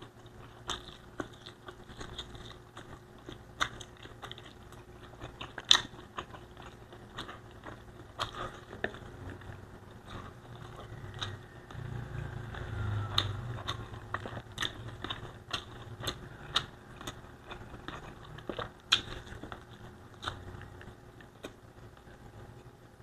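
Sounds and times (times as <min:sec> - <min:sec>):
wet chewing and lip smacks: 0:00.0 - 0:22.1.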